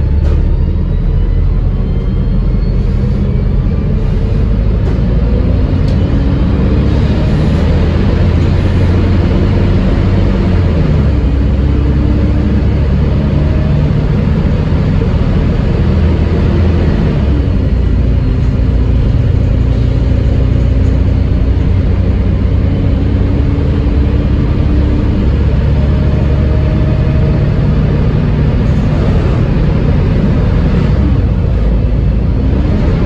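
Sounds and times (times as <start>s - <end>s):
bus engine and transmission whine: 0.0s - 33.0s.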